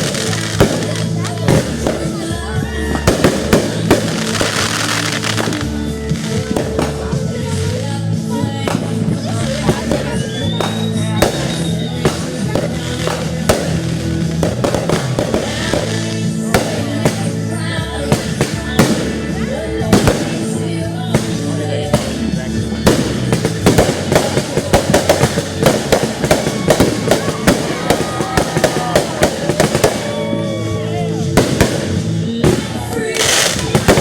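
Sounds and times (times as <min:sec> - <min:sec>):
fireworks bangs and crackling: 0:00.0 - 0:34.0
music playing: 0:00.0 - 0:34.0.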